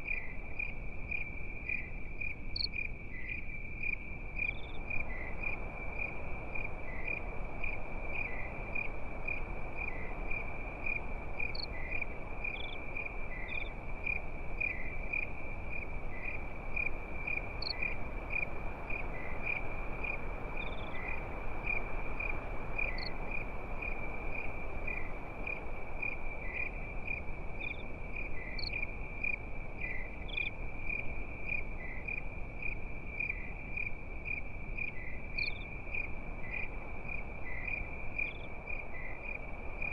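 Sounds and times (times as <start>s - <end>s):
crickets chirping: 0.0s - 39.9s
steady background hiss: 0.0s - 39.9s.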